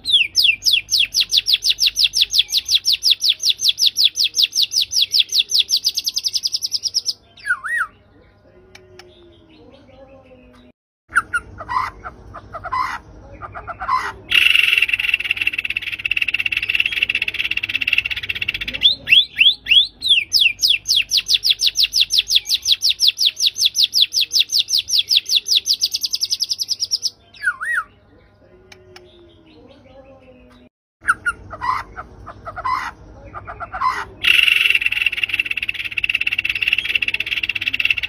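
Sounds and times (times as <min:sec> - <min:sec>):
bird singing: 0:00.0 - 0:38.0.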